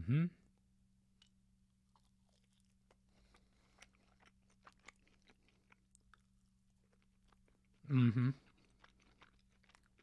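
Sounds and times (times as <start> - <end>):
chewing crunches: 1.2 - 10.0.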